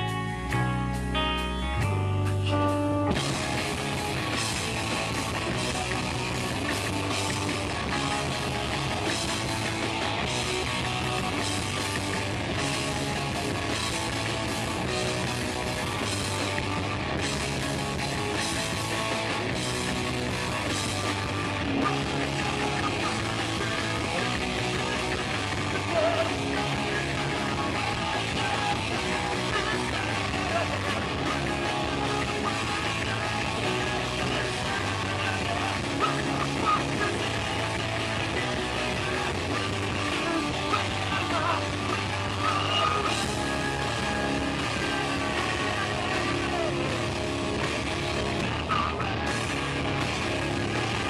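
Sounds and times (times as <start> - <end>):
heavy rock band playing: 0.0 - 51.0
ringing guitar chords: 0.0 - 51.0.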